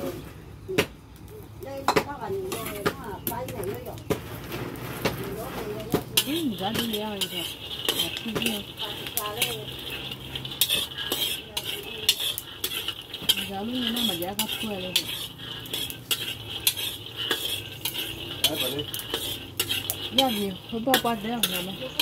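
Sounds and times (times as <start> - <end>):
dry beans rattling in a wok: 1.4 - 22.0
metal spoon scraping a pan: 1.8 - 22.0.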